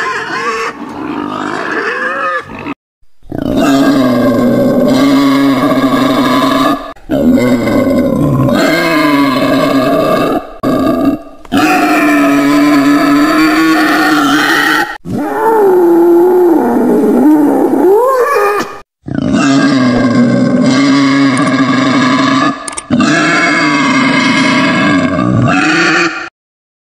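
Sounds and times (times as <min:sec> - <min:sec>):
wild boar calling: 0:00.0 - 0:26.3.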